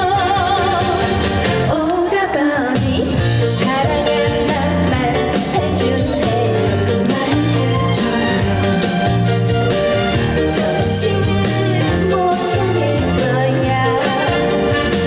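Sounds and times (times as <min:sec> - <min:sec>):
woman singing: 0:00.0 - 0:09.2, 0:10.4 - 0:15.0
instrumental accompaniment: 0:02.8 - 0:15.0.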